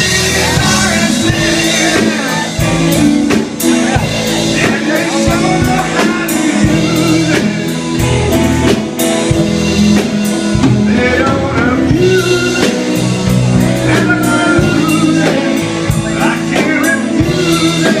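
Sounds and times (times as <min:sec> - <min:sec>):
person singing: 0:00.0 - 0:09.0, 0:10.4 - 0:18.0
drum kit beat: 0:00.0 - 0:18.0
electric guitar playing: 0:00.0 - 0:18.0.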